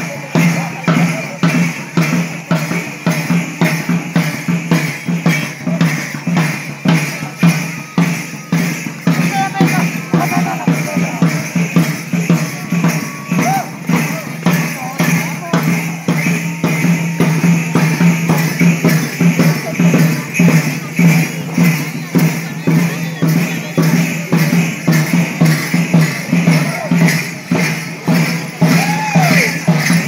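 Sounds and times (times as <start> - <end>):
ankle bells jingling: 0.0 - 30.0
drum beaten with a stick: 0.0 - 30.0.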